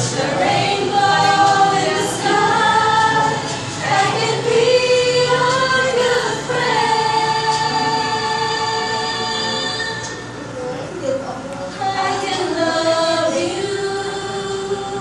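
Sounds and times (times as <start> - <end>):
women singing together: 0.0 - 10.2, 11.7 - 15.0.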